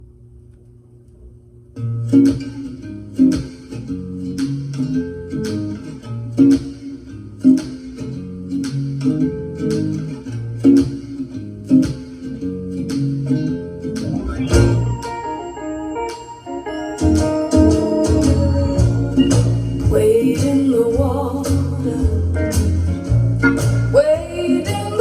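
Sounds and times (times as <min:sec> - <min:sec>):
guitar music from vinyl record: 0:01.7 - 0:25.0.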